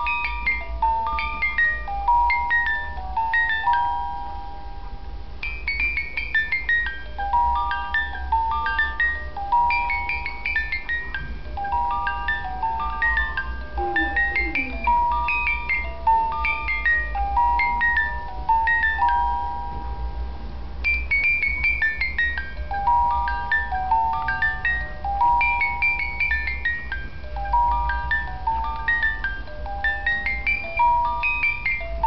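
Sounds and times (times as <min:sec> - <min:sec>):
baby mobile chiming lullaby: 0:00.0 - 0:20.2, 0:20.8 - 0:32.0.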